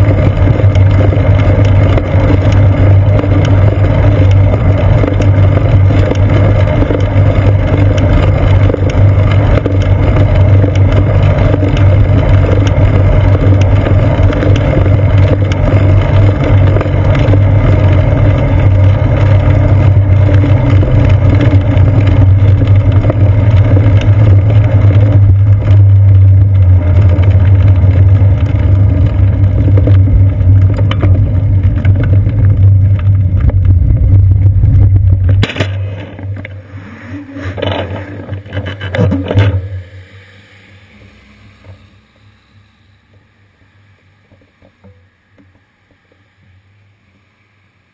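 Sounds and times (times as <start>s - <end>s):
wind and road rumble: 0.0s - 47.9s.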